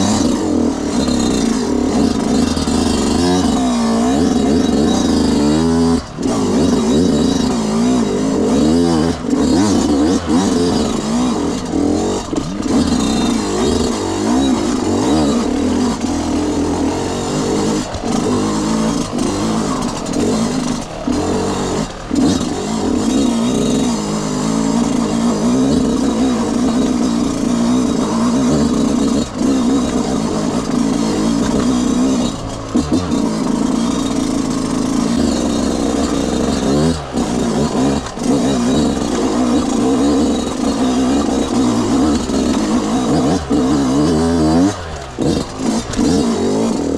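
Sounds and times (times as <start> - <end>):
two-stroke motorcycle engine revving: 0.0 - 46.9.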